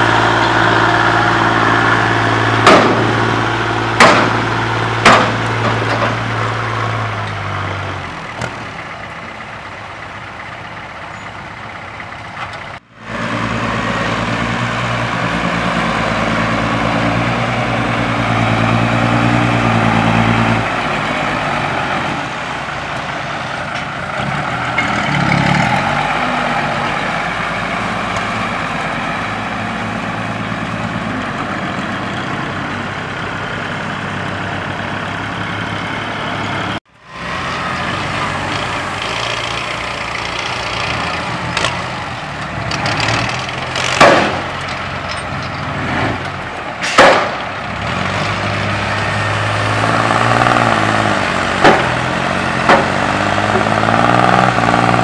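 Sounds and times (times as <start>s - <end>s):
dump truck diesel engines: 0.0s - 55.0s.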